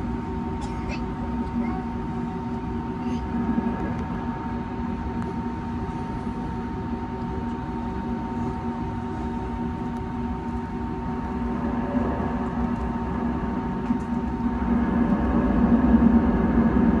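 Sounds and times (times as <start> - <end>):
aircraft cabin engine rush: 0.0 - 17.0.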